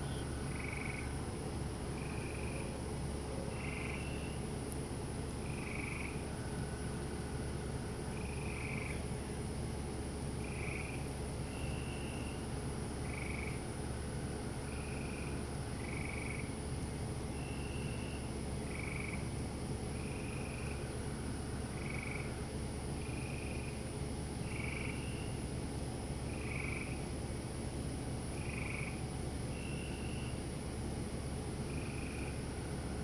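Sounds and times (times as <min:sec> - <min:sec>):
crickets droning: 0:00.0 - 0:33.0
frogs calling: 0:00.0 - 0:33.0
low steady hum: 0:00.0 - 0:33.0.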